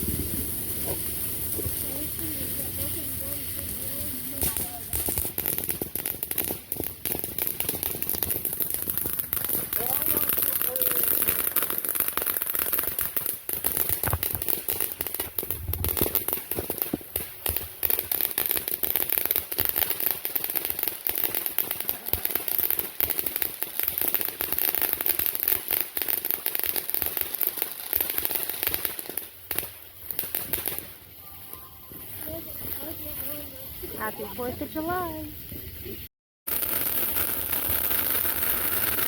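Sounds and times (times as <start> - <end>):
fireworks crackling: 0.0 - 39.0
steady hiss: 0.0 - 39.0.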